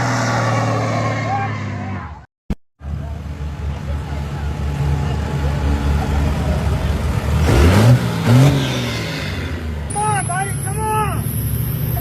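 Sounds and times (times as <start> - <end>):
diesel truck engine idling and revving: 0.0 - 12.0.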